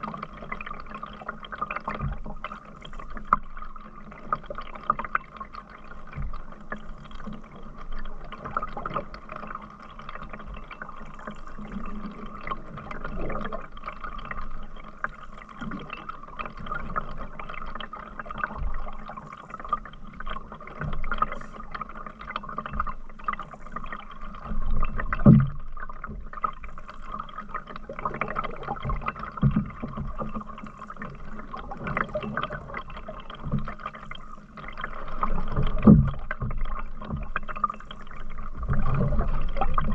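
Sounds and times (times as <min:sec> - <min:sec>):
water gurgling around a canoe: 0:00.0 - 0:39.9.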